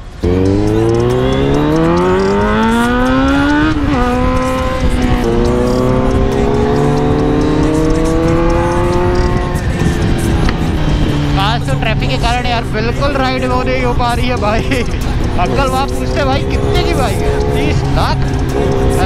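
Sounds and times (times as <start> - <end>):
motorcycle engine accelerating hard: 0.0 - 19.0.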